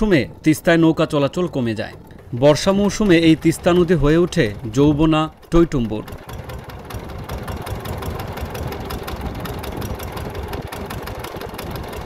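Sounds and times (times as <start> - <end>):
boat diesel engine idling: 0.0 - 12.0.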